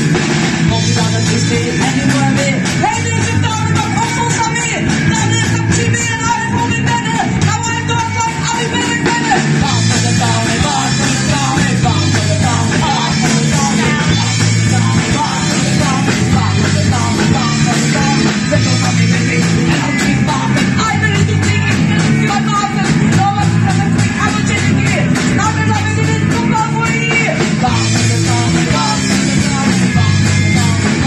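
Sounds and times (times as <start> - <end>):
lead singer singing: 0.0 - 31.0
punk rock band playing: 0.0 - 31.0.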